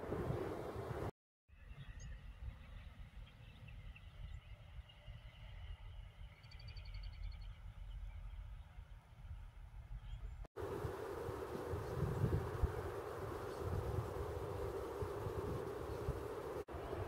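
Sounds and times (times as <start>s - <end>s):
wind rumble on microphone: 0.0s - 1.1s, 1.7s - 17.0s.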